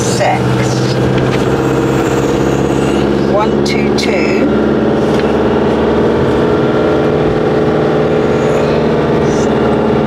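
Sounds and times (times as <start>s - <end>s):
motorhome engine running: 0.0s - 10.0s.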